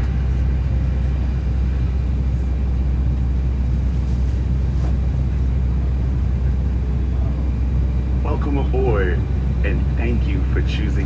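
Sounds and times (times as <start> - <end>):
airliner cabin low rumble: 0.0 - 11.0.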